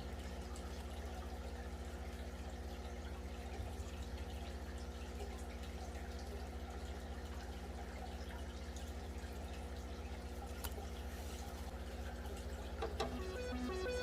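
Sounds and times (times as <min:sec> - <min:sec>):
low mechanical hum: 0:00.0 - 0:14.0
water dripping and trickling: 0:00.0 - 0:14.0.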